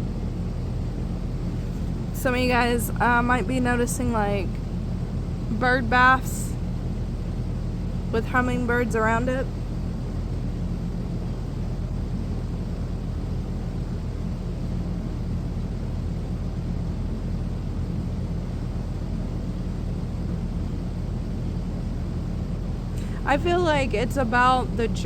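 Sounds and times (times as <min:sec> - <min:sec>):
constant hum: 0:00.0 - 0:25.0
low background rumble: 0:00.0 - 0:25.0.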